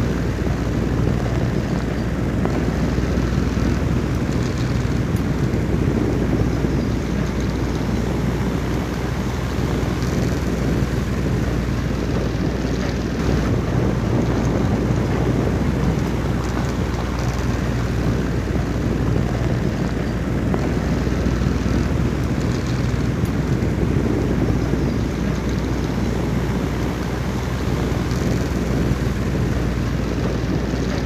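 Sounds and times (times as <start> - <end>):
wind blowing: 0.0 - 31.0.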